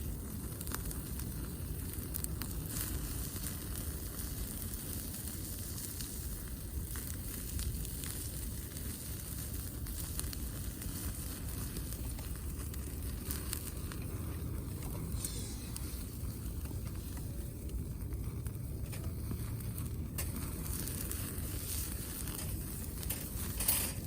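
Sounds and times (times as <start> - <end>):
campfire crackling and popping: 0.0 - 24.0
food sizzling: 0.0 - 24.0.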